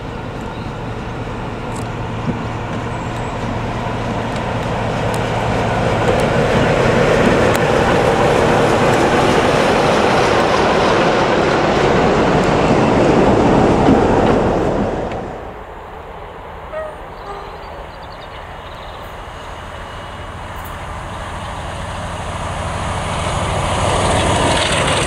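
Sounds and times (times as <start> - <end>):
diesel locomotive passing: 0.0 - 25.0.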